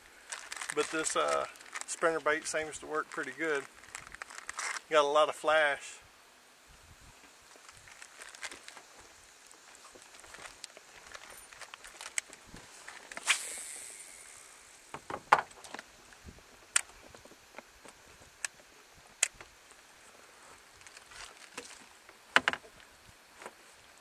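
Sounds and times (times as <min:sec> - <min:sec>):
faint outdoor hiss: 0:00.0 - 0:24.0.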